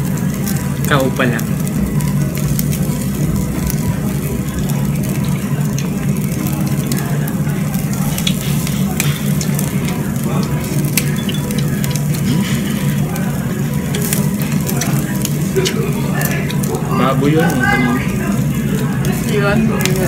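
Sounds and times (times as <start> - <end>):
meat sizzling on a grill: 0.0 - 20.0
steady low hum: 0.0 - 20.0.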